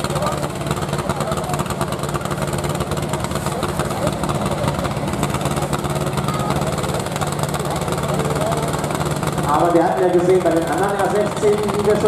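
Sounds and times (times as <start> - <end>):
tractor engine under heavy load: 0.0 - 12.0.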